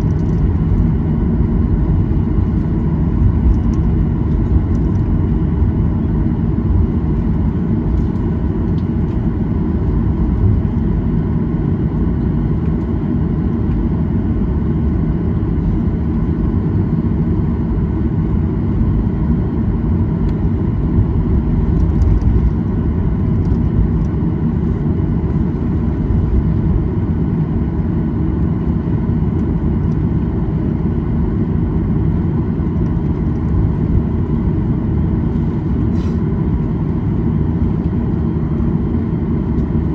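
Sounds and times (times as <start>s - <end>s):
aircraft cabin rumble: 0.0s - 39.9s.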